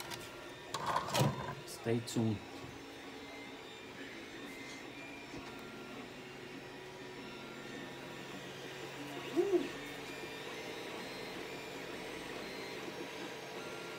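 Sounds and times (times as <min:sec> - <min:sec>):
three d printer motors whirring: 0:00.0 - 0:13.9.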